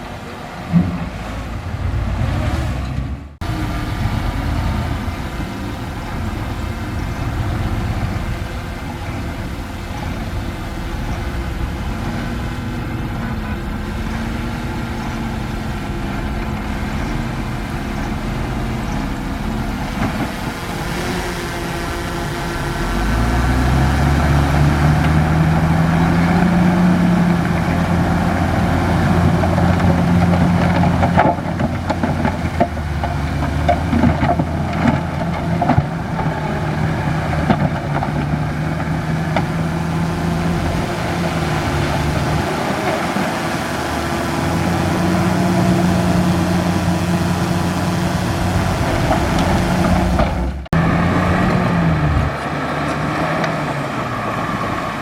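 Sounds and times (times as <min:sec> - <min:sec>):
bulldozer diesel engine revving: 0:00.0 - 0:55.0.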